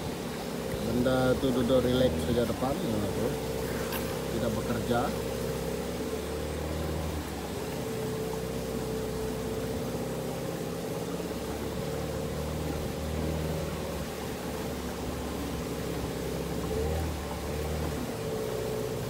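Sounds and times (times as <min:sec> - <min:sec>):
outboard motor droning: 0:00.0 - 0:19.0.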